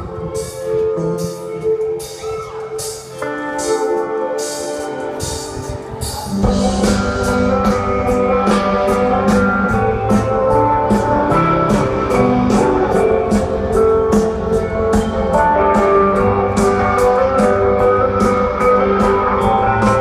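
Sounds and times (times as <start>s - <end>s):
guitar: 0.0s - 20.0s
live band instrumental music: 0.0s - 20.0s.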